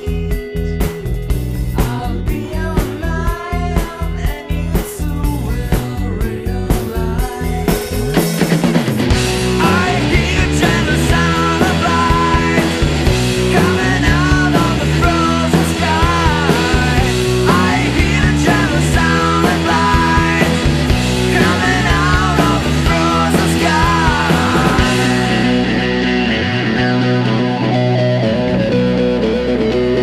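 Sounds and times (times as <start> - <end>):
rock band with electric guitars: 0.0 - 30.0.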